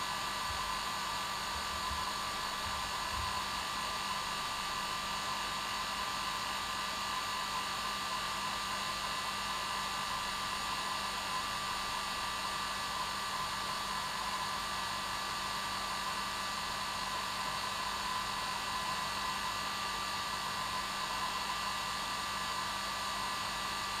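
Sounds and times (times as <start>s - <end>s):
hair dryer running: 0.0s - 24.0s.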